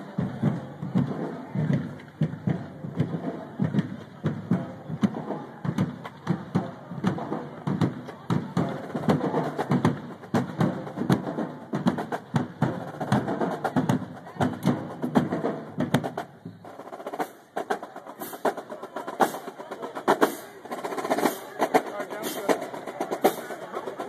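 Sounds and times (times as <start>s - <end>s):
marching drumline playing: 0.0s - 24.0s.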